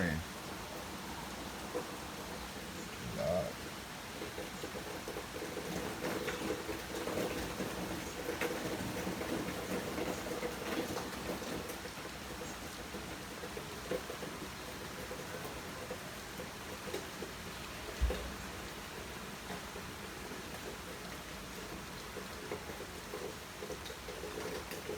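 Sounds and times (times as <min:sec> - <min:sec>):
rain shower hissing: 0:00.0 - 0:24.9.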